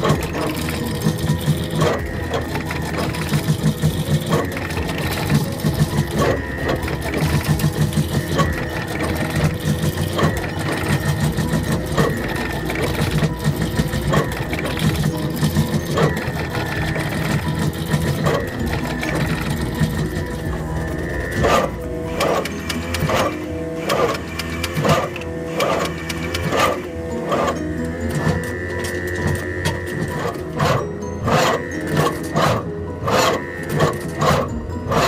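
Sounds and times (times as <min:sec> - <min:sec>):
pulsing motor whir: 0:00.0 - 0:35.0
sharp machine clicks: 0:00.0 - 0:35.0.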